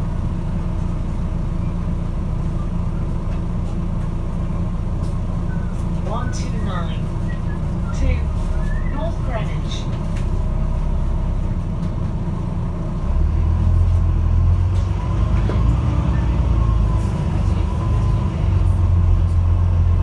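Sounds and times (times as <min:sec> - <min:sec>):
bus diesel engine groaning: 0:00.0 - 0:20.0.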